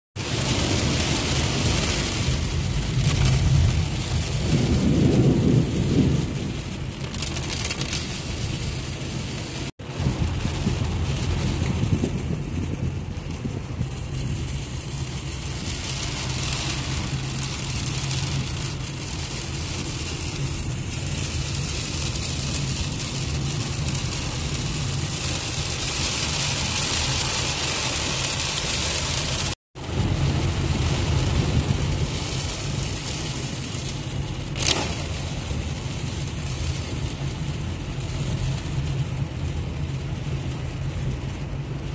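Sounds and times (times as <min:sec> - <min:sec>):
car engine and tyre rumble: 0:00.2 - 0:41.9
rain hiss and spray: 0:00.2 - 0:41.9.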